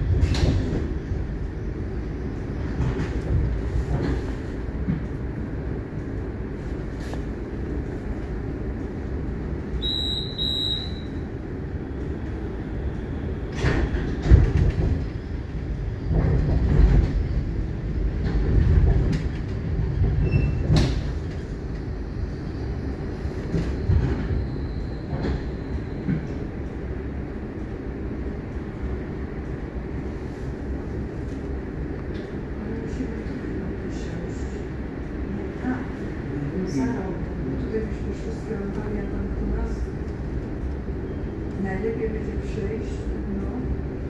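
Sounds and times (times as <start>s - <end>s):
tram rumbling on rails: 0.0s - 44.0s.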